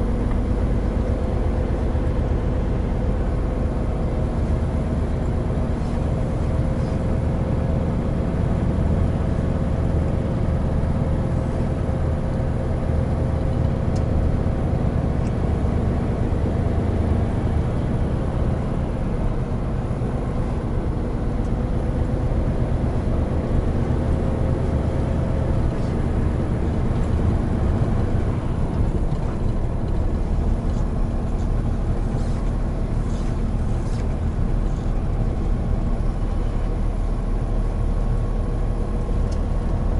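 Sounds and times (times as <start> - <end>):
road noise: 0.0 - 39.9
truck diesel engine drone: 0.0 - 39.9.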